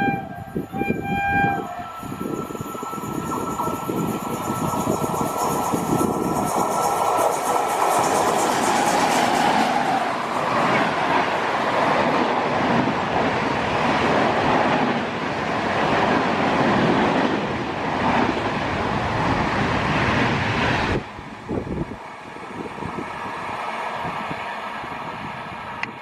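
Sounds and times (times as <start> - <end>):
train wheels rushing on rail: 0.0 - 26.0.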